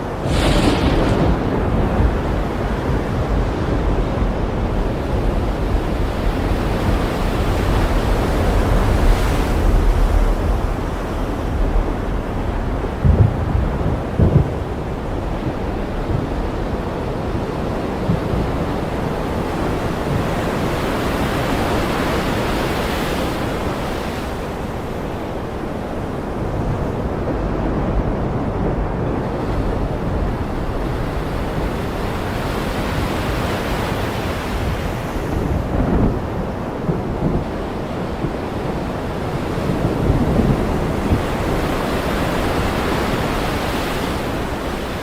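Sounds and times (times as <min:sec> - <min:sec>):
ocean waves breaking: 0:00.0 - 0:45.0.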